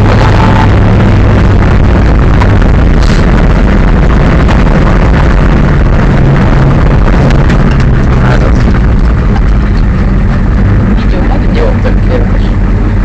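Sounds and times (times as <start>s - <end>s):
truck engine running loud: 0.0s - 13.0s.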